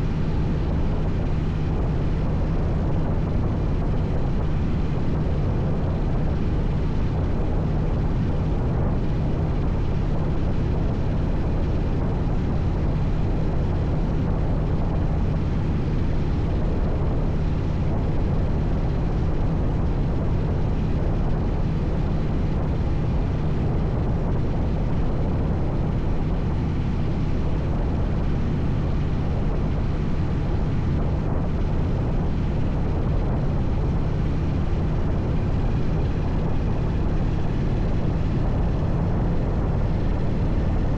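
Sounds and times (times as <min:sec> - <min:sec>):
low engine drone: 0:00.0 - 0:40.9.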